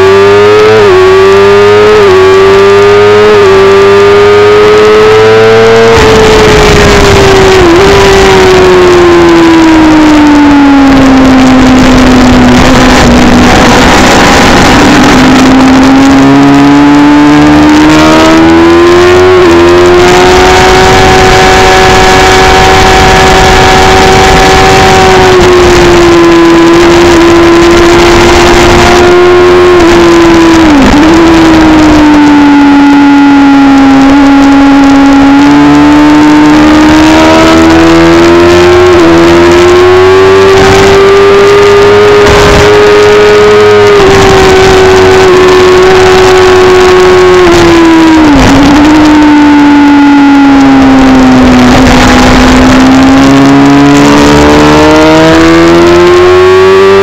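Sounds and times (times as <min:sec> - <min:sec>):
motorcycle engine at high revs: 0:00.0 - 0:57.0
wind rush: 0:05.2 - 0:35.5, 0:36.7 - 0:56.4.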